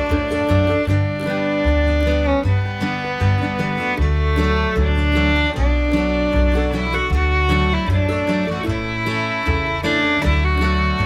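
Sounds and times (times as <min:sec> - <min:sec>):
fiddle melody: 0:00.0 - 0:11.0
guitar: 0:00.0 - 0:11.0
steady bass line: 0:00.0 - 0:11.0.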